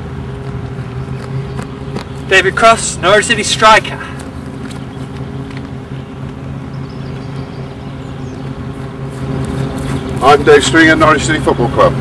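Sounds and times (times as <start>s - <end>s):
faint open air noise: 0.0s - 12.0s
low engine-like hum: 0.0s - 12.0s.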